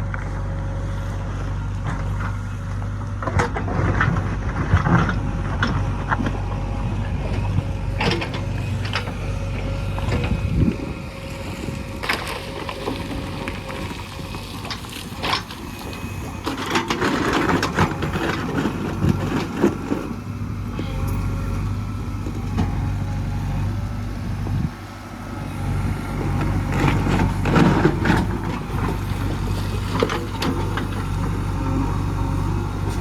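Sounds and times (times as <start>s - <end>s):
diesel engine running: 0.0s - 33.0s
knocks and scraping: 1.8s - 33.0s.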